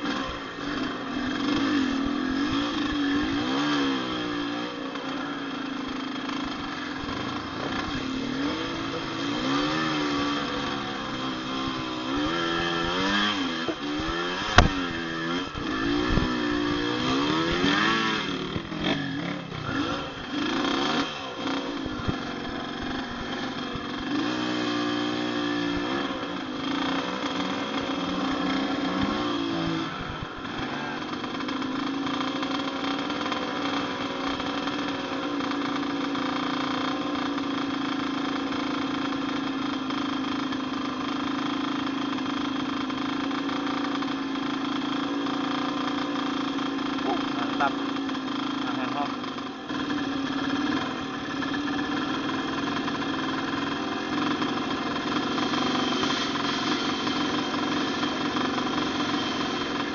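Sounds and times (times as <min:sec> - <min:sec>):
dirt bike engine revving and idling: 0:00.0 - 0:59.9.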